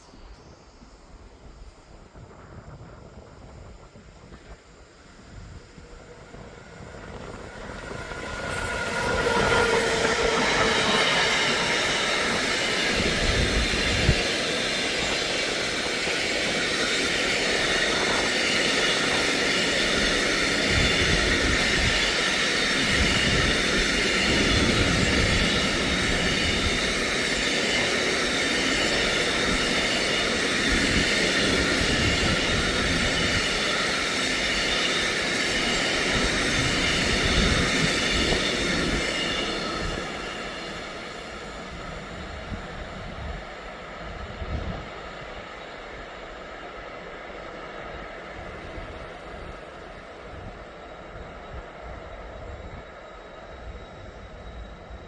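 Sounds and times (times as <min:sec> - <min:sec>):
train passing on rails: 0:00.0 - 0:55.0.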